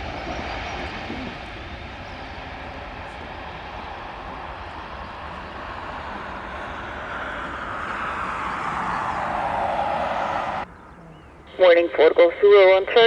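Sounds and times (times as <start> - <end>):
jet airliner engines rushing: 0.0 - 13.0.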